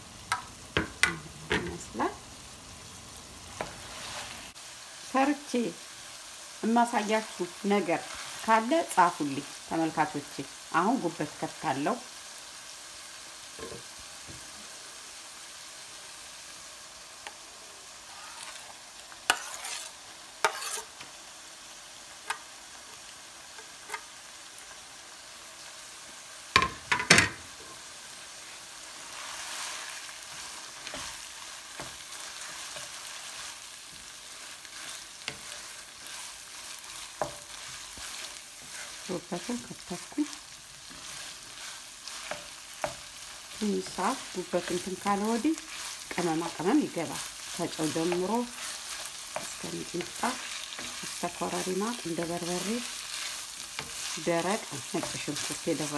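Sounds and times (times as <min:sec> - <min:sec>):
meat sizzling in a frying pan: 0:00.0 - 0:55.9.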